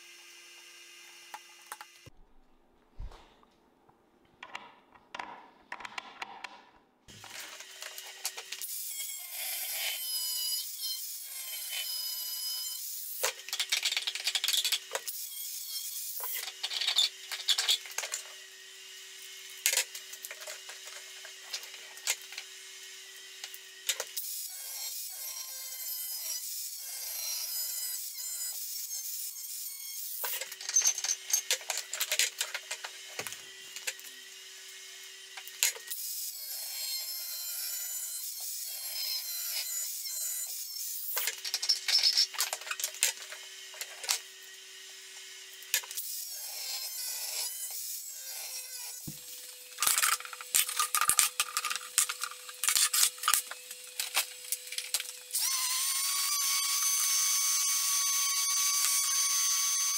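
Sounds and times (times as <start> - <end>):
angle grinder cutting steel: 7.1 - 59.9.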